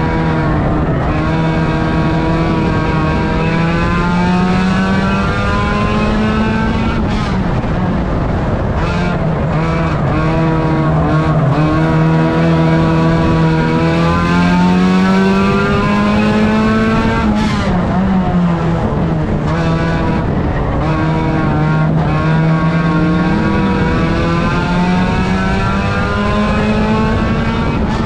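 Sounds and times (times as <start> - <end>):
racing car engine under load: 0.0 - 28.0.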